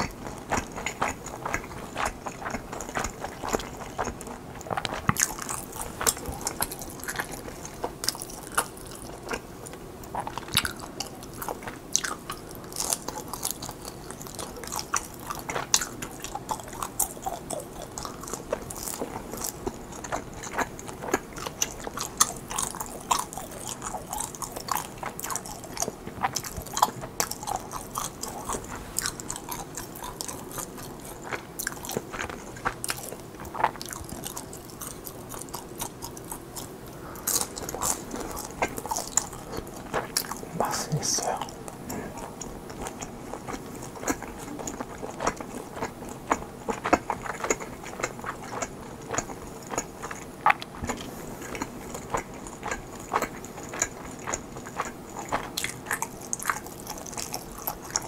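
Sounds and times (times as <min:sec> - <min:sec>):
close chewing mouth clicks: 0:00.0 - 0:58.0.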